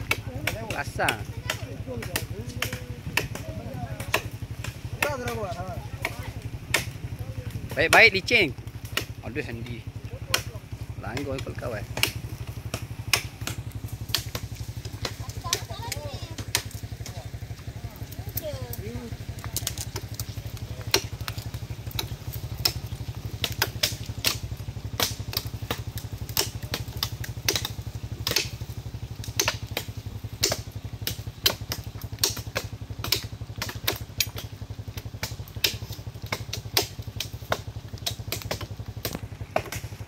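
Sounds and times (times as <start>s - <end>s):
machete chopping branches: 0.0s - 40.0s
small engine idling: 0.0s - 40.0s.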